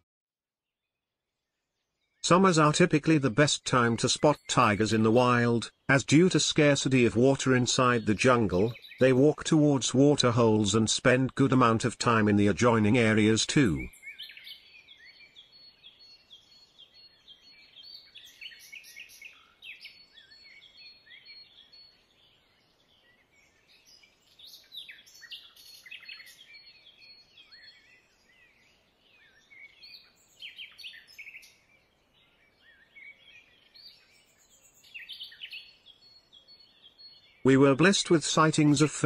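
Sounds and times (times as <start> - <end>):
wild birds chirping: 1.4 - 39.0.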